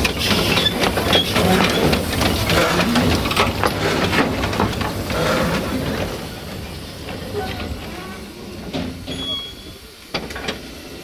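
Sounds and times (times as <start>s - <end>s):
steam locomotive rolling: 0.0s - 11.0s
wheels and running gear clanking: 0.0s - 11.0s.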